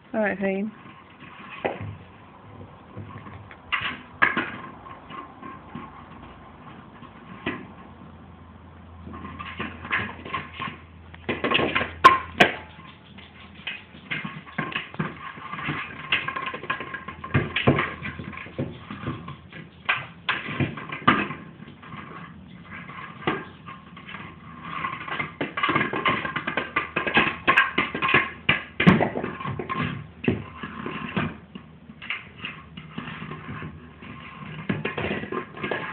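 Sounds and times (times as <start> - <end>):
toy rolling and bouncing on floor: 0.6 - 8.2, 8.9 - 35.9
knocks and clatter: 0.7 - 8.2, 8.9 - 35.9.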